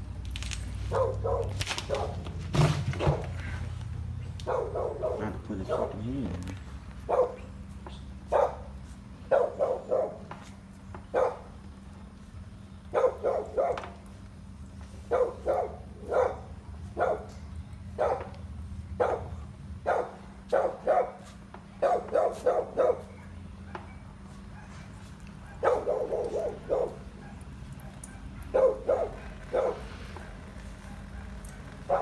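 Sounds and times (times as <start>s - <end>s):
dog barking: 0.9s - 2.3s, 4.3s - 11.6s, 12.9s - 14.1s, 15.0s - 18.4s, 19.0s - 32.0s.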